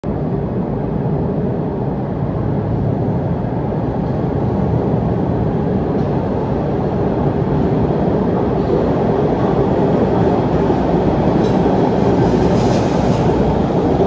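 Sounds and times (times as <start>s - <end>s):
metro train rumbling: 0.0s - 14.0s.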